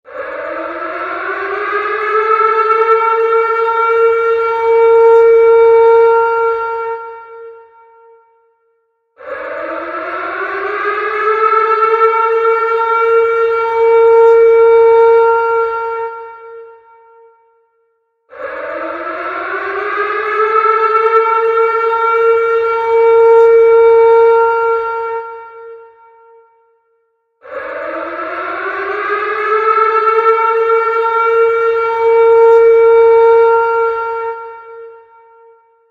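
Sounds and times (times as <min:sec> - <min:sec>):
warning siren wailing: 0:00.1 - 0:08.4, 0:09.2 - 0:17.5, 0:18.3 - 0:26.5, 0:27.4 - 0:35.9.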